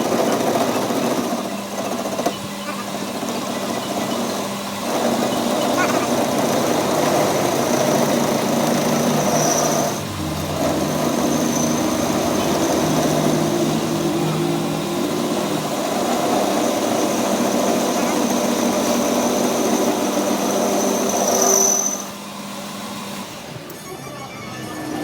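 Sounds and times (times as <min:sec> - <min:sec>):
machine motor humming: 0:00.0 - 0:21.3.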